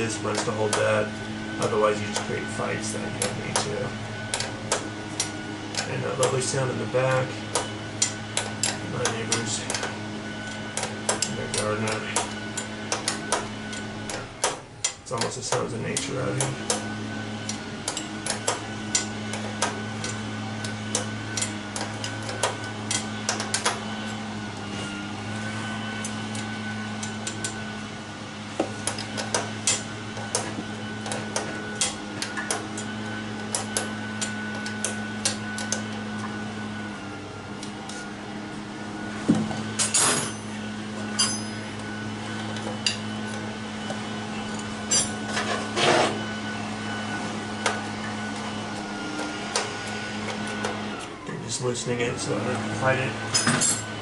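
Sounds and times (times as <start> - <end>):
motor drone: 0.0 - 54.0.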